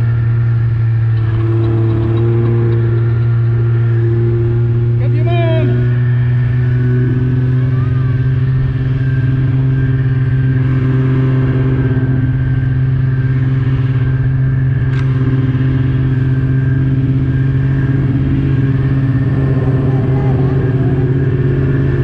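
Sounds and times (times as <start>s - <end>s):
snowmobile engine droning: 0.0s - 22.0s.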